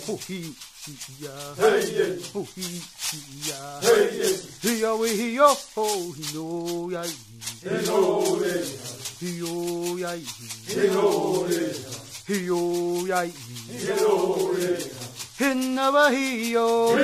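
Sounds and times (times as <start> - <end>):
person chanting: 0.0 - 17.0
shaken rattle: 0.0 - 17.0.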